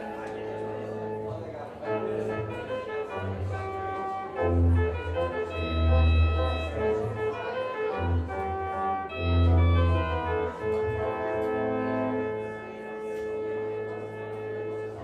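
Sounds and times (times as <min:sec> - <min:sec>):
church organ chords: 0:00.0 - 0:15.0.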